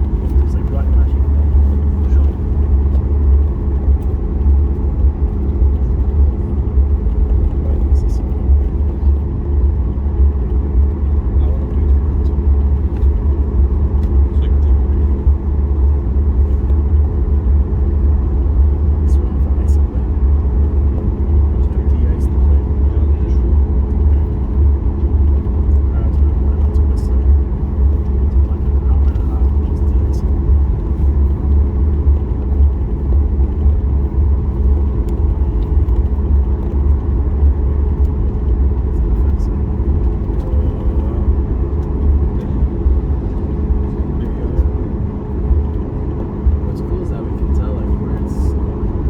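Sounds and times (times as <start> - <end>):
jet engines idling in cabin: 0.0 - 49.0.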